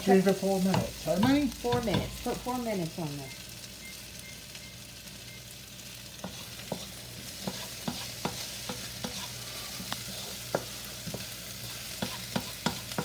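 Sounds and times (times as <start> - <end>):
onions sizzling in a frying pan: 0.0 - 13.0.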